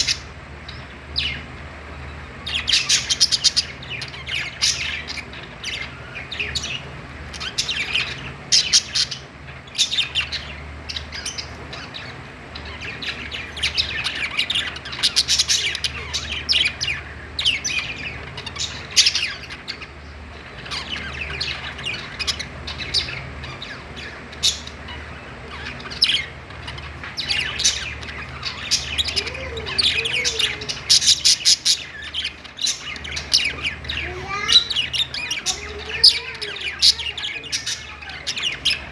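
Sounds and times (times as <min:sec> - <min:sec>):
budgerigars chirping and warbling: 0:00.0 - 0:38.9.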